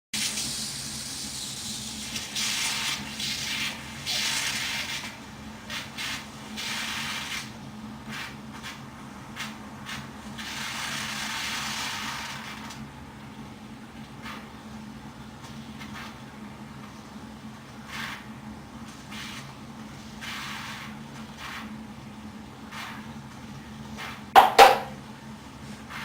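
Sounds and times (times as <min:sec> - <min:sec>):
fermenting beer hissing and bubbling: 0:00.2 - 0:24.4.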